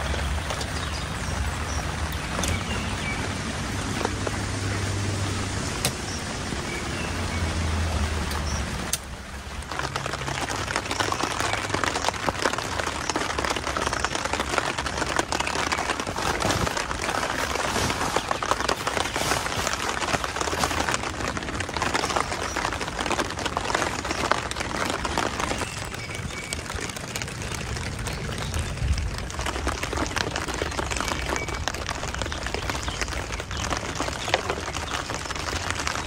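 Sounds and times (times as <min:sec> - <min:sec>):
rain pattering on a tent: 0:00.0 - 0:36.0.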